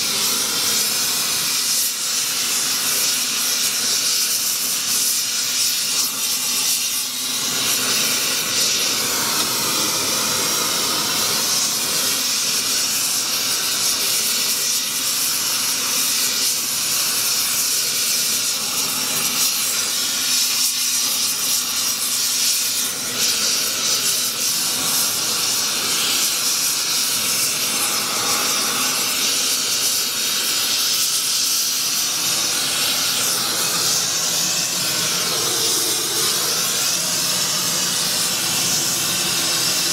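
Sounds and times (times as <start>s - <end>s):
torch burning with hiss: 0.0s - 39.9s.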